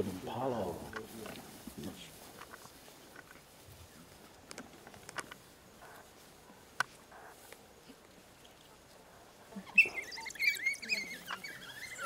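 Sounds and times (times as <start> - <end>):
rustling in dry grass: 0.0 - 12.0.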